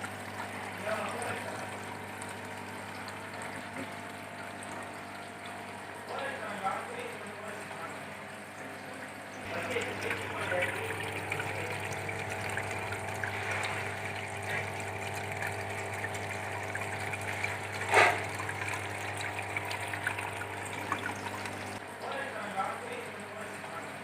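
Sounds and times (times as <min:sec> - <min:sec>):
fountain water trickling: 0:00.0 - 0:21.8
pump humming: 0:00.0 - 0:24.0.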